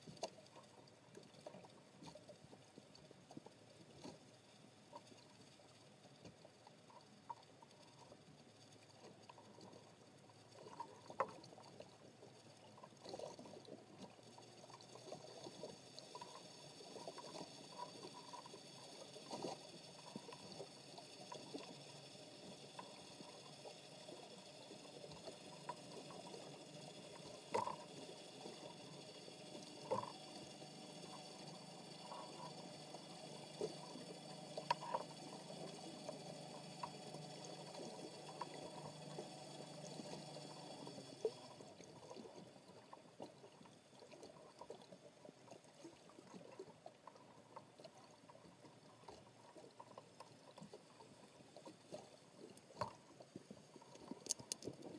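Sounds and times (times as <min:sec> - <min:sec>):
faint underwater hiss: 0:00.0 - 0:54.9
small underwater clicks and taps: 0:00.0 - 0:54.9.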